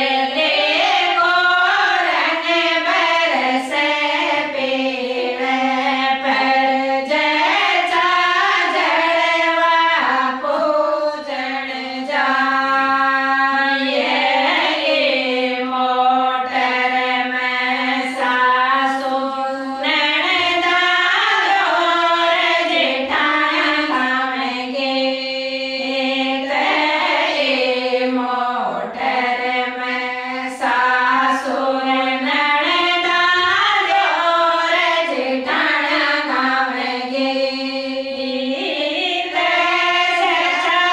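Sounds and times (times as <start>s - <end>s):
women singing folk song: 0.0s - 40.9s.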